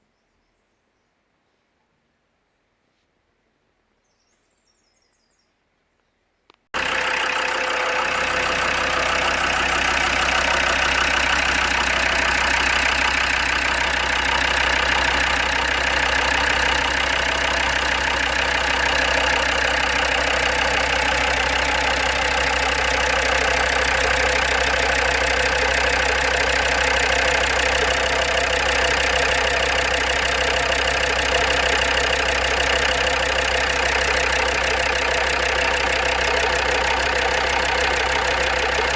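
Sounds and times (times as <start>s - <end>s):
diesel engine idling: 6.8s - 38.9s
engine ticking and tapping: 6.8s - 38.9s.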